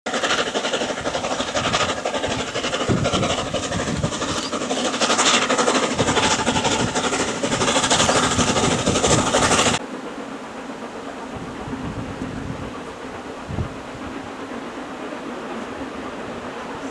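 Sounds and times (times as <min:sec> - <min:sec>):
steady rushing noise: 0:00.1 - 0:16.9
steam train clattering: 0:00.1 - 0:16.9.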